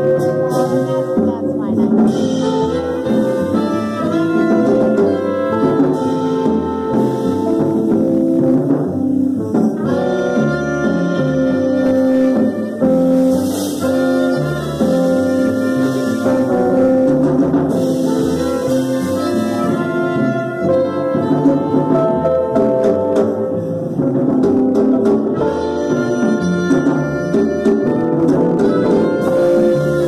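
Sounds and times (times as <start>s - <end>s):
alto saxophone: 0.0s - 24.0s, 25.2s - 30.0s
drums: 0.0s - 30.0s
trumpet: 0.0s - 30.0s
upright bass: 0.0s - 30.0s.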